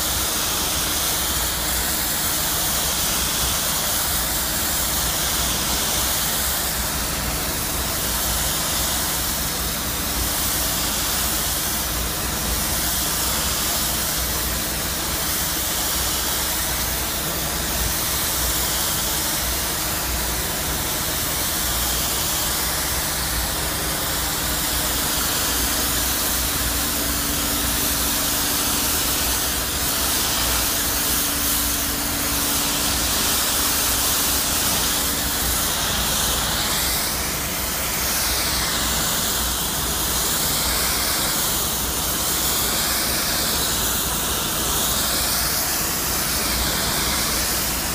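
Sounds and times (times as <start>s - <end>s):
hiss of spray and steam: 0.0s - 47.9s.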